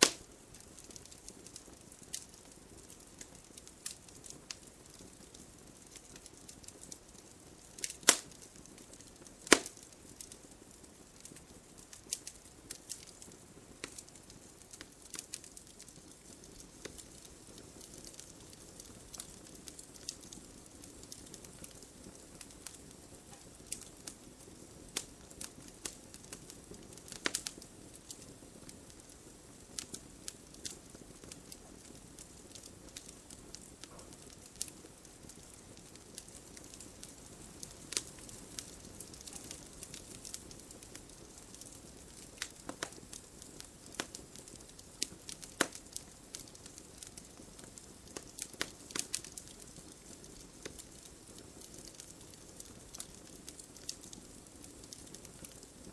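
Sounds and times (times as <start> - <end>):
campfire hissing: 0.0 - 55.9
wood crackling and popping: 0.0 - 55.9.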